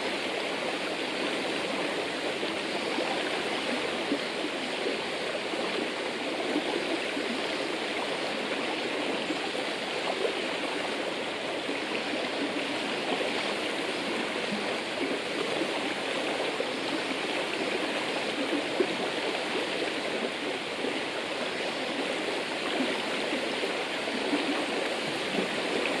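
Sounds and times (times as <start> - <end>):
river water babbling over rocks: 0.0 - 26.0.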